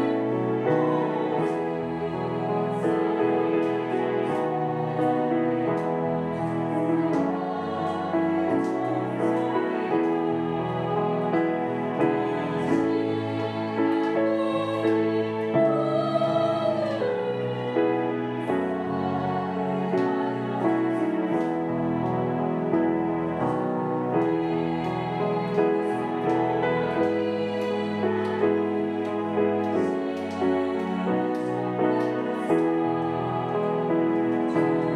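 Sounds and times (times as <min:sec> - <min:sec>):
instrumental accompaniment: 0:00.0 - 0:34.9
women's choir singing a hymn: 0:00.0 - 0:34.9.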